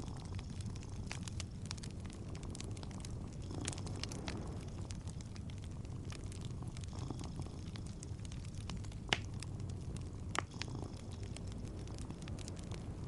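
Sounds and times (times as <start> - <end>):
cat purring: 0.0 - 13.0
wood fire crackling: 0.0 - 13.0
sharp pops of fire: 0.1 - 13.0.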